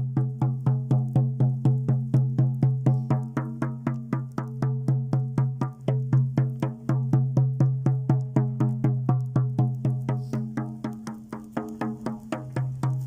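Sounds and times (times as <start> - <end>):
frame drum beating fast: 0.0 - 13.0.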